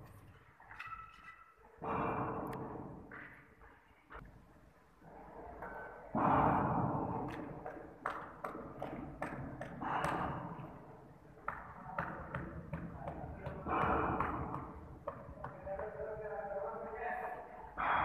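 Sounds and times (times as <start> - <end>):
sharp taps and knocks echoing: 0.1 - 4.3, 5.6 - 17.0.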